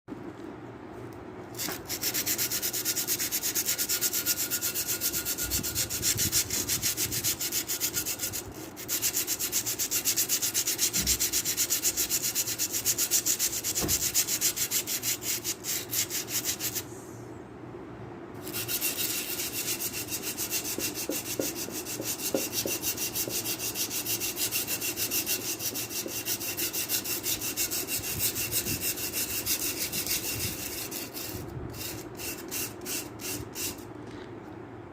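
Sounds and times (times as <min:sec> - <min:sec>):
plant pot being scrubbed: 0:01.6 - 0:16.8, 0:18.4 - 0:33.8.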